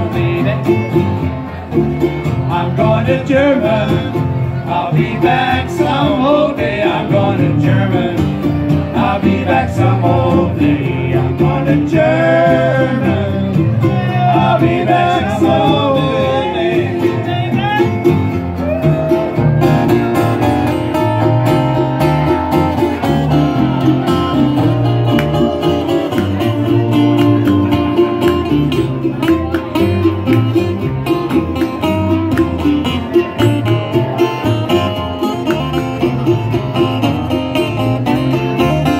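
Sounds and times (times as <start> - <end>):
acoustic jug band playing: 0.0 - 38.9
strummed guitar: 0.0 - 38.9
walking upright bass: 0.0 - 38.9.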